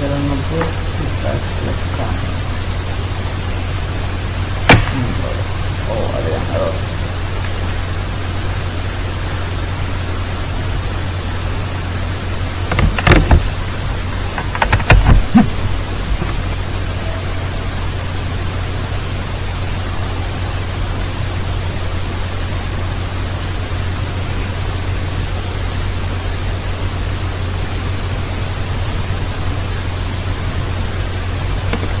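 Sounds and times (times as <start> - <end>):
constant low hum: 0.0 - 32.0
steady hiss: 0.0 - 32.0.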